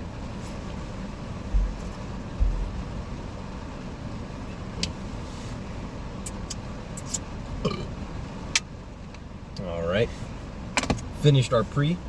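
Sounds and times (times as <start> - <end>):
car idling hum: 0.0 - 12.0.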